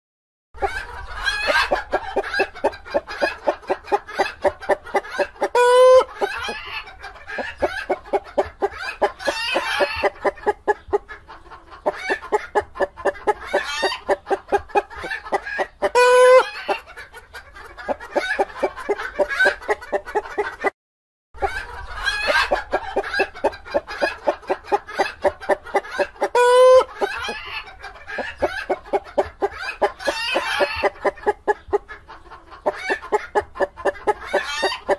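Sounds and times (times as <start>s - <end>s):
chicken squawking: 0.6s - 20.7s, 21.4s - 34.9s
chicken clucking: 0.6s - 20.8s, 21.4s - 34.9s.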